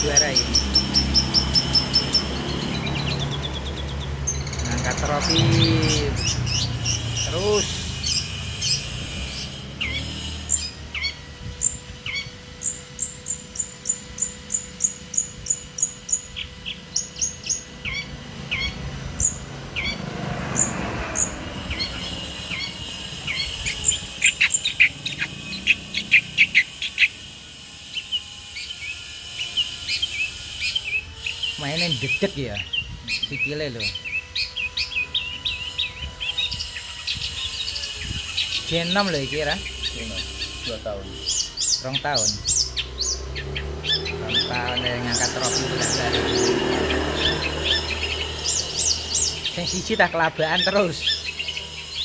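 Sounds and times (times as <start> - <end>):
shrike singing high chirps: 0.0 - 52.0.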